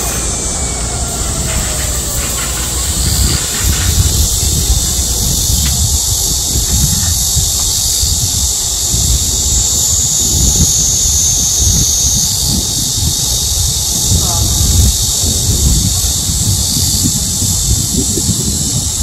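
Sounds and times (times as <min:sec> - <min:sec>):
cicadas buzzing: 0:00.0 - 0:19.0
low uneven rumble: 0:00.0 - 0:19.0.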